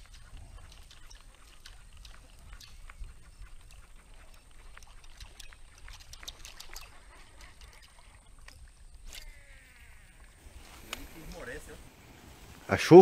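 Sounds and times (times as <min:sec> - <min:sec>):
faint fishing reel clicks: 0:00.0 - 0:11.7
light water noise: 0:00.0 - 0:13.0.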